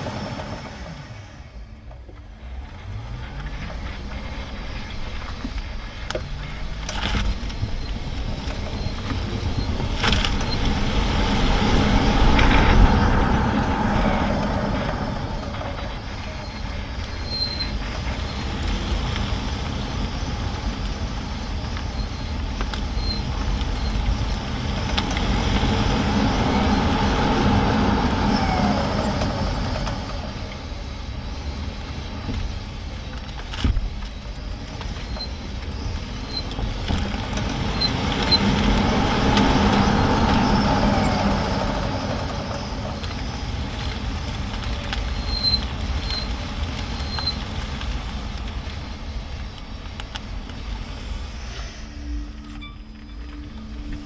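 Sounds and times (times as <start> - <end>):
car road and tyre noise: 0.0 - 54.0.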